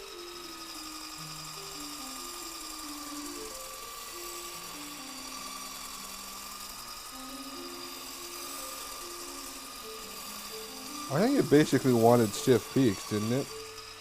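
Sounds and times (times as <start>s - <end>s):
electric whisk motor whining: 0.0s - 14.0s
quiet background music: 0.0s - 14.0s.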